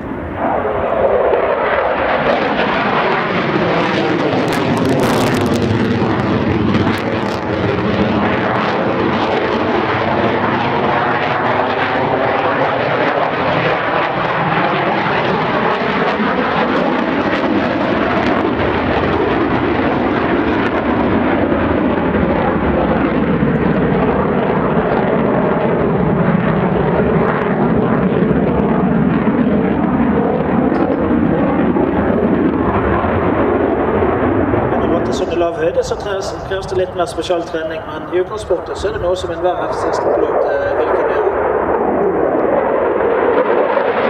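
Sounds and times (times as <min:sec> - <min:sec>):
fighter jet rumble: 0:00.0 - 0:44.0.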